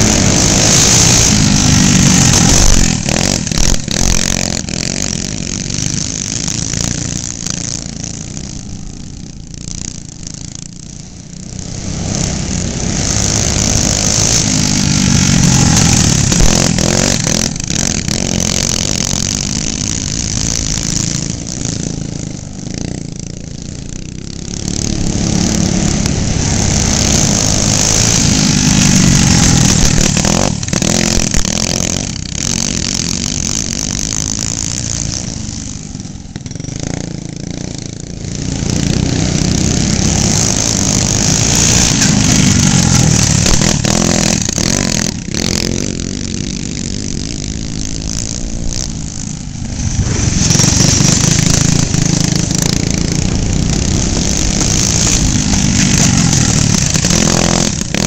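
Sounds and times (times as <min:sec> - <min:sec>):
go-kart engines passing: 0:00.0 - 0:58.0.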